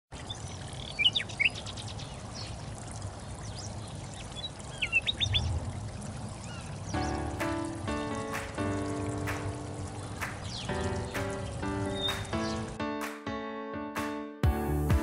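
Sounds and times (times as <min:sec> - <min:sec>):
birds chirping: 0:00.1 - 0:13.2
running water rushing: 0:00.1 - 0:13.2.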